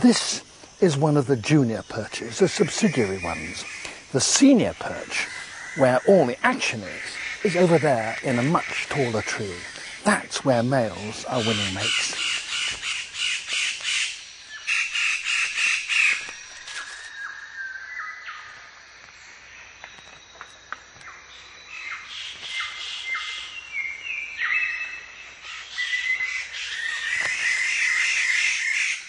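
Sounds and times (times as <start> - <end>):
birds calling harsh notes: 0.0 - 18.7, 19.6 - 29.0.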